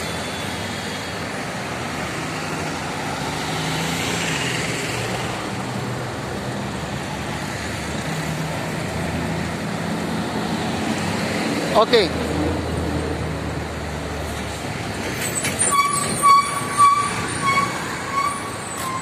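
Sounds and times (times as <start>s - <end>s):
bus passing close: 0.0s - 19.0s
road traffic hum: 0.0s - 19.0s.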